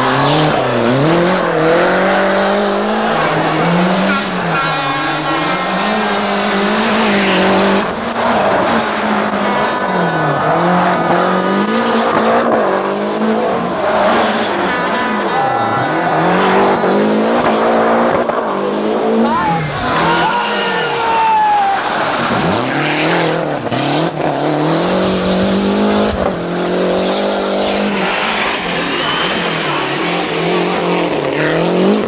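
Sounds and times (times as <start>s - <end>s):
rally car engine revving: 0.0s - 21.2s, 21.8s - 32.0s.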